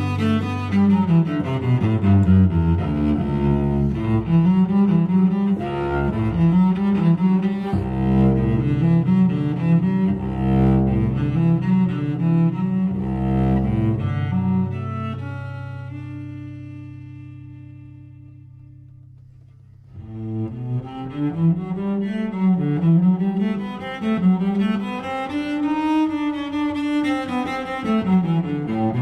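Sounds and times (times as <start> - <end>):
low bowed strings melody: 0.0 - 29.0.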